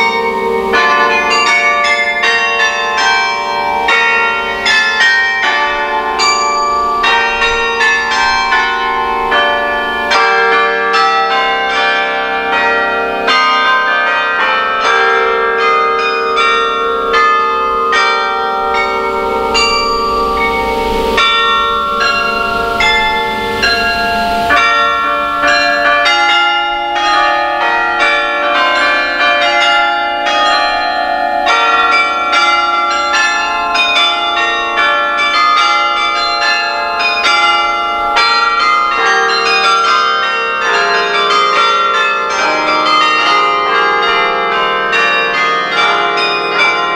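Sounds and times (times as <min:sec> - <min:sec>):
carillon bells playing a carol: 0:00.0 - 0:46.9.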